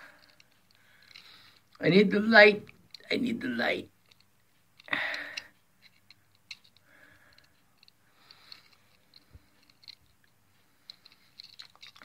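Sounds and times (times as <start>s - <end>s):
soft breaths: 0.0s - 1.8s, 4.0s - 12.0s.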